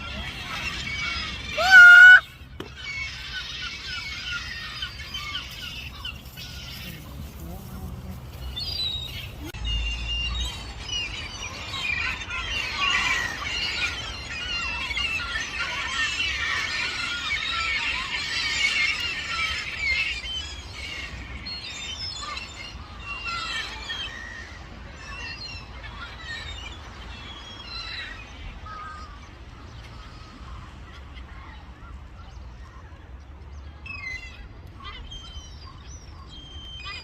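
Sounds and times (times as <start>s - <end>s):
gulls calling: 0.0s - 37.0s.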